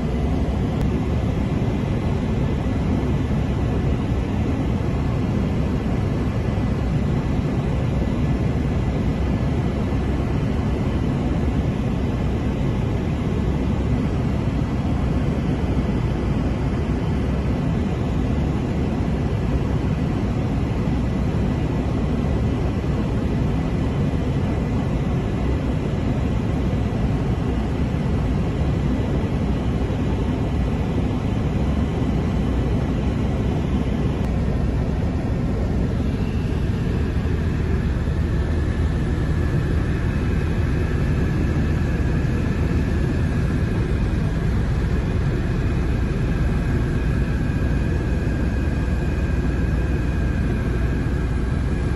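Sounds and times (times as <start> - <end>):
helicopter turbine and rotors: 0.0 - 51.9.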